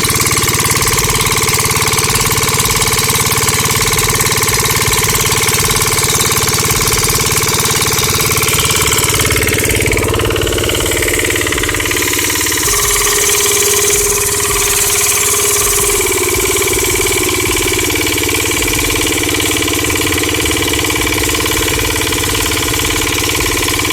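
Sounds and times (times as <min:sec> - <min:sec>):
model diesel engine rattling: 0:00.0 - 0:23.9.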